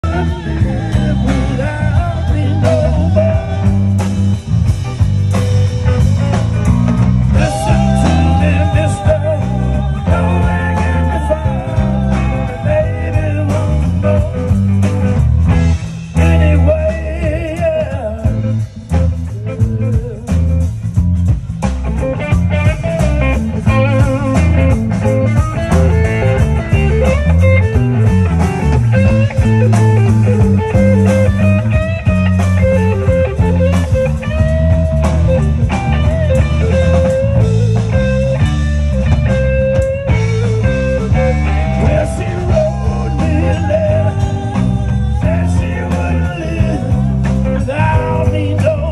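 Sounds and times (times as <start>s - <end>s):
bass line: 0.0s - 48.9s
drum kit: 0.0s - 48.9s
electric guitar: 0.0s - 48.9s
live rock band playing: 0.0s - 48.9s.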